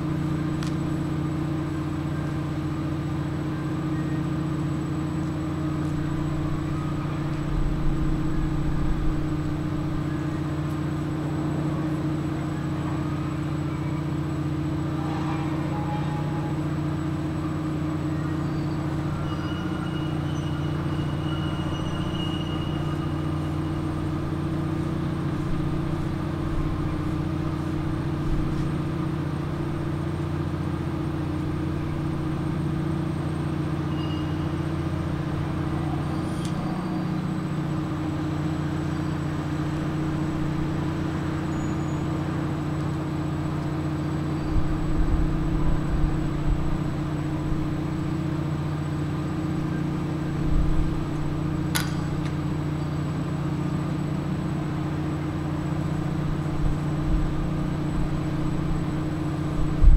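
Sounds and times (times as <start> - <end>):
low machinery drone: 0.0 - 59.9.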